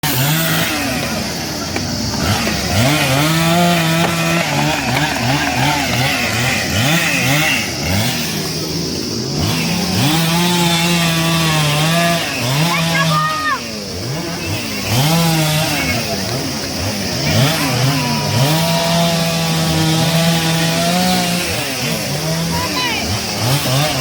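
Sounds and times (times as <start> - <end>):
chainsaw engine revving: 0.0 - 24.0.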